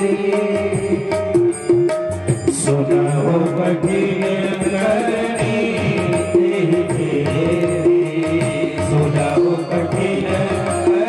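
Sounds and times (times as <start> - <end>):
hand drum rhythm: 0.0 - 11.0
harmonium melody: 0.0 - 11.0.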